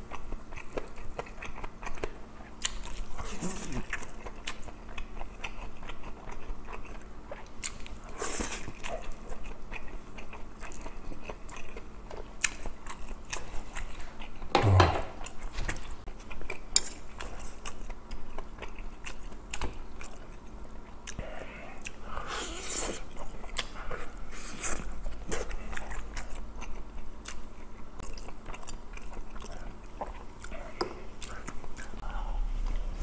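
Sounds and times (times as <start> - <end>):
close chewing and mouth sounds: 0.0 - 14.5, 15.2 - 33.0.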